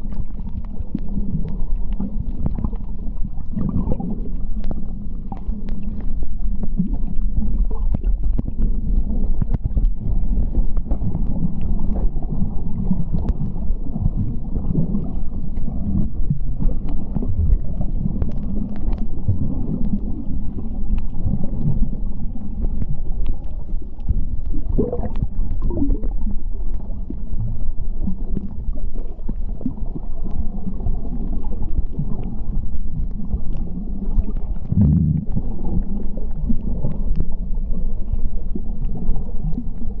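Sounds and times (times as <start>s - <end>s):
bubbles gurgling: 0.0s - 40.0s
faint ticks: 0.0s - 40.0s
muffled underwater rumble: 0.0s - 40.0s.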